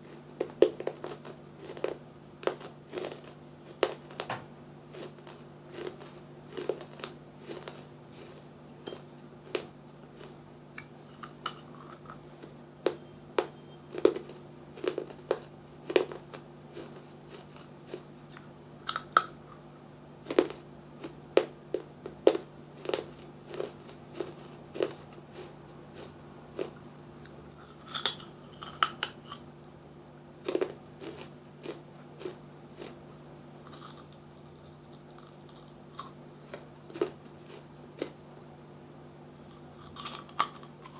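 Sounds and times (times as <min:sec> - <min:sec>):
faint steady hum: 0:00.0 - 0:40.9
clay being bitten and chewed: 0:00.1 - 0:29.6, 0:30.4 - 0:38.5, 0:39.3 - 0:40.9.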